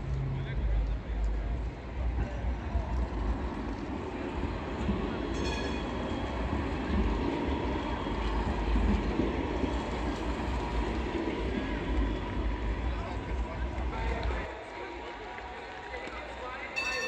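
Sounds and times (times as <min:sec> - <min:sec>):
tram rumbling on rails: 0:00.0 - 0:15.6, 0:16.4 - 0:17.0.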